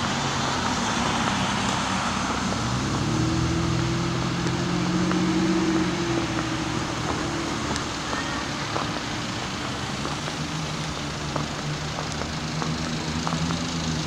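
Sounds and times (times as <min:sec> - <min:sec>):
cars driving past: 0:00.0 - 0:14.0
low engine hum: 0:00.0 - 0:14.0.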